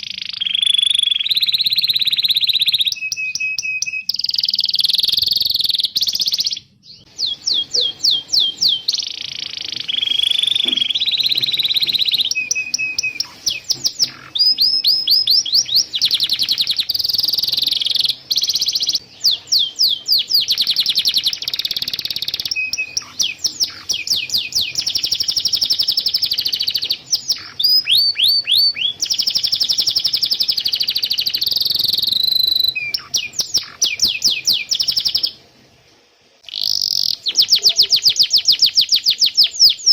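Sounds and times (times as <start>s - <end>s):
canary singing rapid trills: 0.0s - 35.4s, 36.4s - 39.9s.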